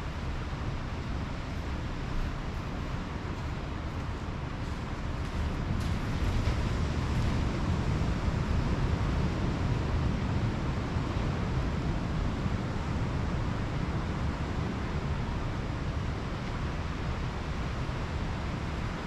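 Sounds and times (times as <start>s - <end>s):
surf washing on beach: 0.0s - 19.0s
wind rumble on microphone: 0.0s - 19.0s.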